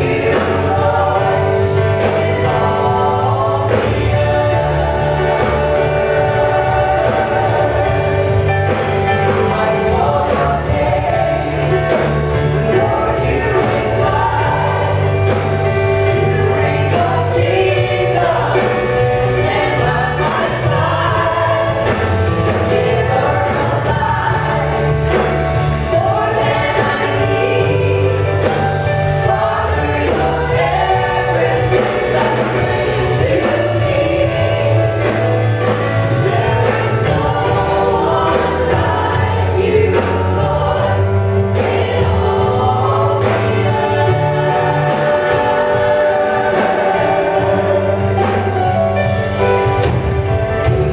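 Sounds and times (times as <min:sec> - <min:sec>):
bass: 0:00.0 - 0:50.9
choir singing: 0:00.0 - 0:50.9
keyboard chords: 0:00.0 - 0:50.9.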